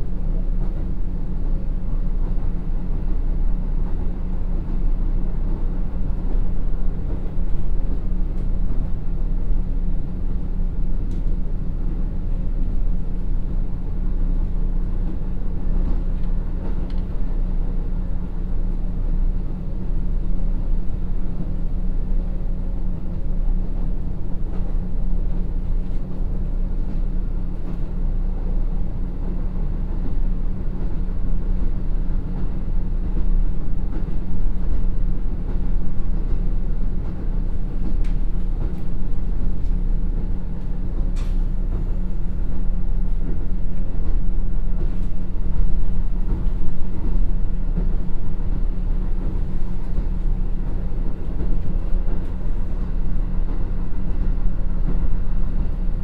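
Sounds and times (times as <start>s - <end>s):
low diesel engine hum: 0.0s - 56.0s
wheel-on-rail rumble: 0.0s - 56.0s.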